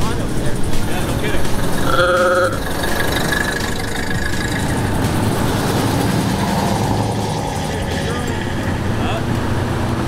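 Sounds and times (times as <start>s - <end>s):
cars driving past: 0.0s - 10.0s.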